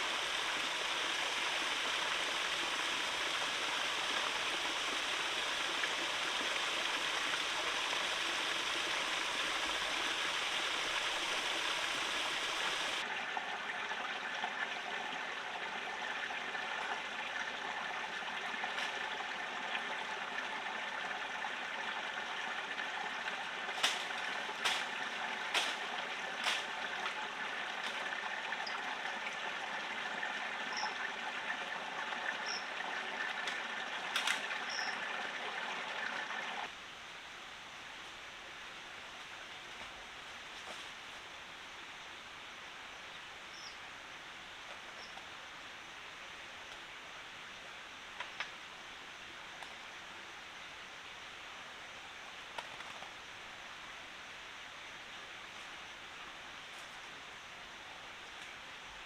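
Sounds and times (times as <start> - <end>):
forest stream running: 0.0 - 59.0.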